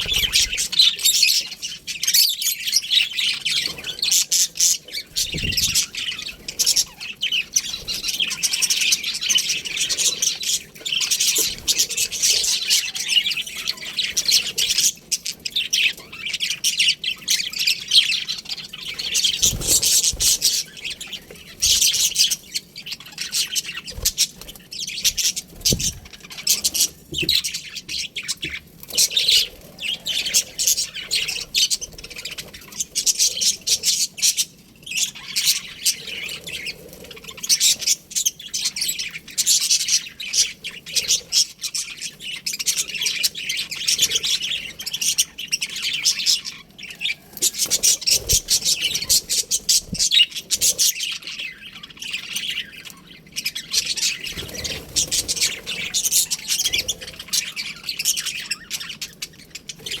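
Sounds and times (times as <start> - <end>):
budgerigars chattering: 0.0 - 60.0.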